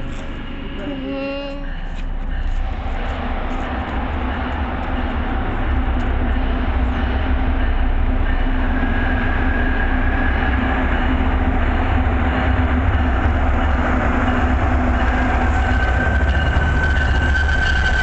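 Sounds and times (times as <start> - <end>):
diesel train deep rumble: 0.0 - 18.0.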